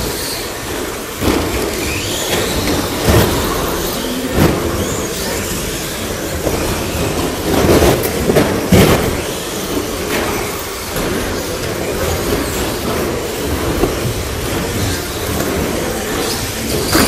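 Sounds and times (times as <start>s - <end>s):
radio-controlled cars racing: 0.0s - 17.0s.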